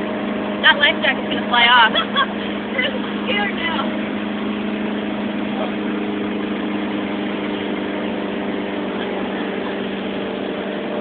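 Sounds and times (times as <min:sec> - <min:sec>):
motorboat engine droning: 0:00.0 - 0:11.0
water rushing: 0:00.0 - 0:11.0.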